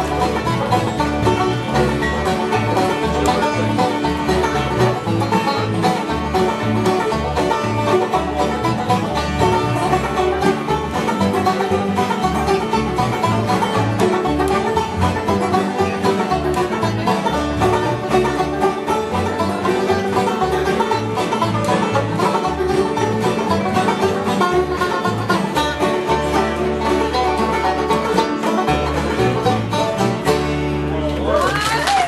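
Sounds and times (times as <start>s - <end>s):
guitar picking: 0.0s - 31.4s
banjo picking: 0.0s - 32.0s
bass line: 0.0s - 32.0s.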